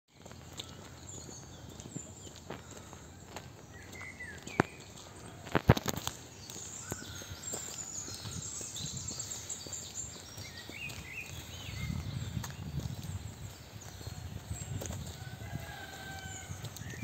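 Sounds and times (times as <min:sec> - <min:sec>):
birds chirping and trilling: 0:00.1 - 0:17.0
footsteps on gravel: 0:00.1 - 0:17.0.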